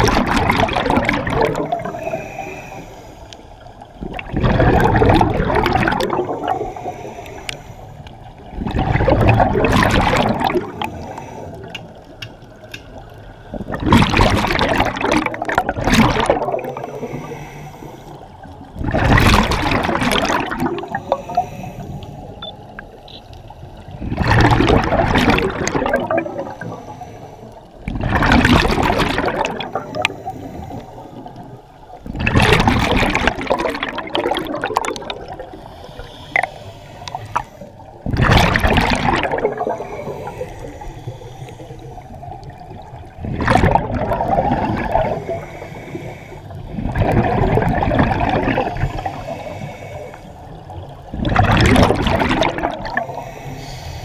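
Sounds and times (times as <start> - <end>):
diver exhaling bubbles underwater: 0.0 - 2.8, 3.9 - 7.5, 8.4 - 11.7, 13.5 - 17.5, 18.7 - 21.7, 23.9 - 27.0, 27.8 - 53.4.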